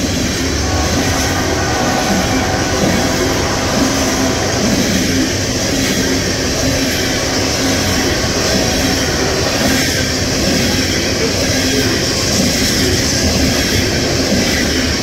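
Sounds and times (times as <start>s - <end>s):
train cars rolling past: 0.0s - 15.0s.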